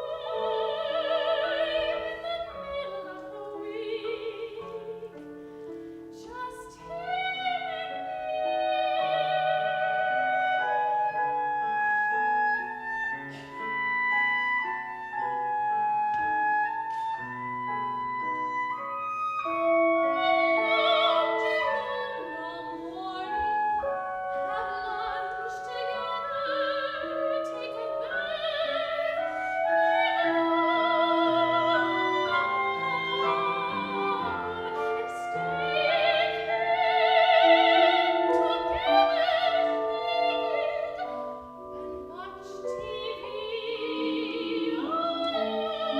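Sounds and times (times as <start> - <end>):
operatic soprano singing: 0.0 - 5.4, 6.0 - 17.2, 18.0 - 45.9
instrumental accompaniment: 0.0 - 45.9.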